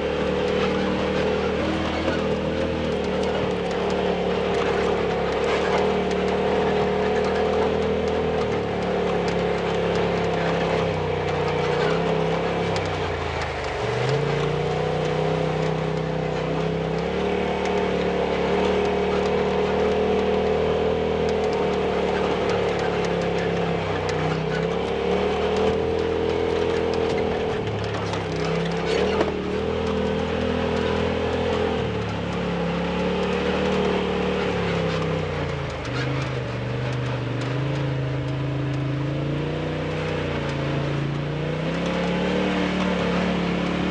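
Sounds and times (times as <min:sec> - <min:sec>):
off-road vehicle engine running: 0:00.0 - 0:43.9.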